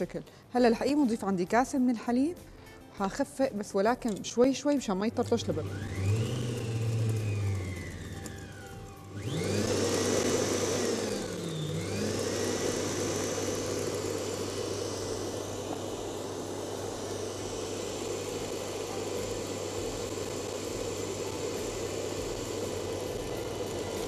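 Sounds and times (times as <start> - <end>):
electric stand mixer whisking: 4.0 - 24.0.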